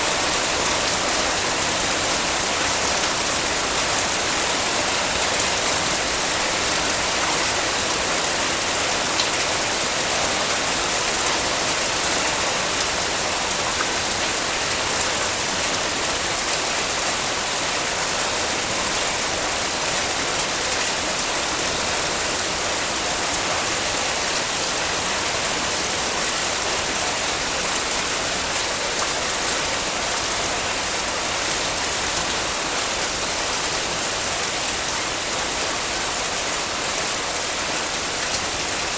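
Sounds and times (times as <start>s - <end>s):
patter of raindrops: 0.0s - 38.9s.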